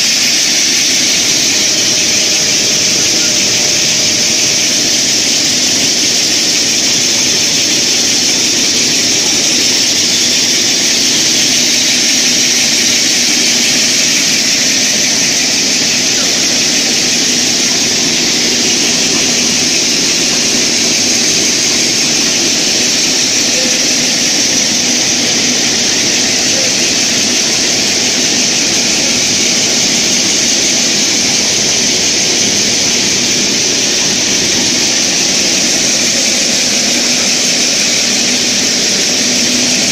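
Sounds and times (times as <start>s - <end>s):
wire drawing machine running: 0.0s - 39.9s.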